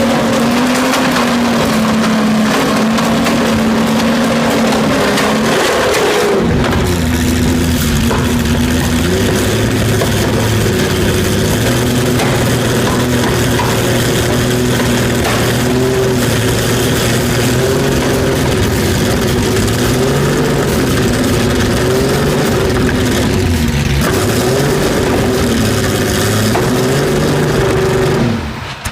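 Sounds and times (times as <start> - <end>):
racing engine running at low revs: 0.0 - 28.9.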